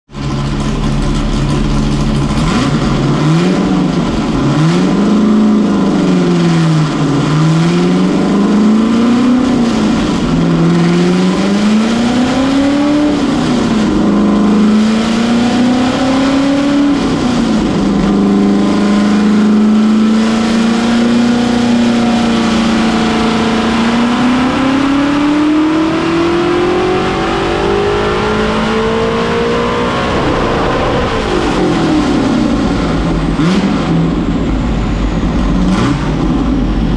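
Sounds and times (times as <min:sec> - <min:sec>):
truck engine revving: 0:00.1 - 0:36.9.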